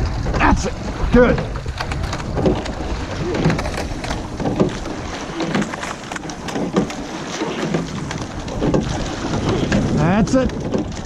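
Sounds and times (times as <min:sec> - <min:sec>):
wind noise on microphone: 0:00.0 - 0:06.9, 0:07.6 - 0:11.0
oars knocking and clicking: 0:00.0 - 0:11.0
water rushing: 0:00.0 - 0:11.0.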